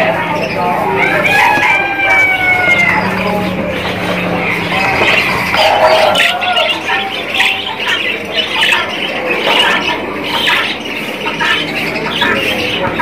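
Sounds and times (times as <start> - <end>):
caged birds chirping and squawking: 0.0 - 13.0.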